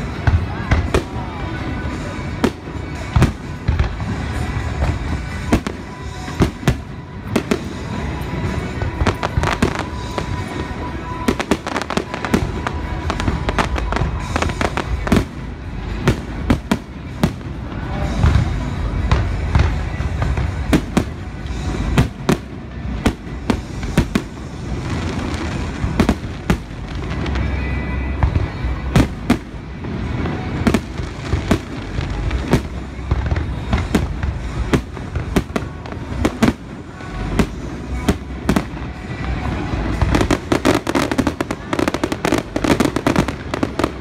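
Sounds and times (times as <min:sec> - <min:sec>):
low rumble of fireworks: 0:00.0 - 0:44.0.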